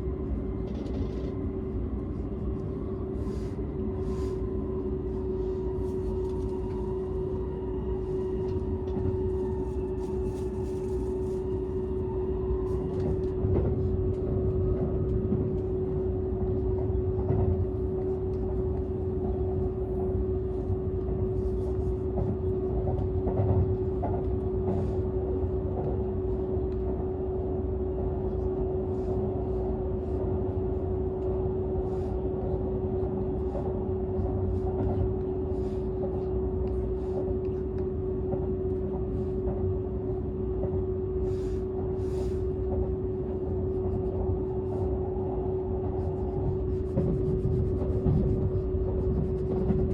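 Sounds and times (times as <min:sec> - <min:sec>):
faint whining tones: 0:00.0 - 0:49.9
train cabin rumble and hum: 0:00.0 - 0:49.9.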